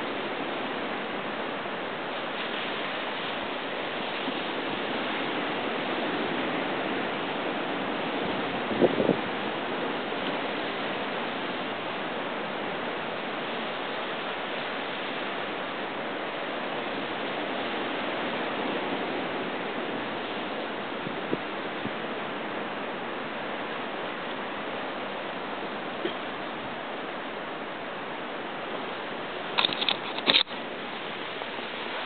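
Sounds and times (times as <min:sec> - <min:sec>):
ocean surf on rocks: 0:00.0 - 0:32.0.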